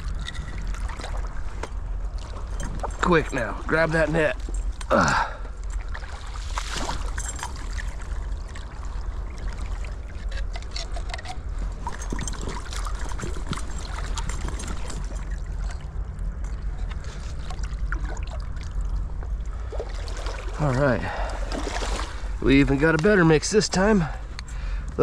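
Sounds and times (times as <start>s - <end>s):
water splashing and dripping: 0.0s - 23.2s.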